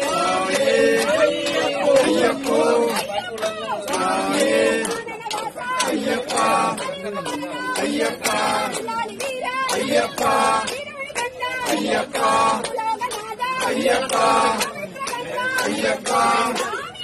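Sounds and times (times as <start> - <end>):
voices singing devotional song: 0.0 - 17.0.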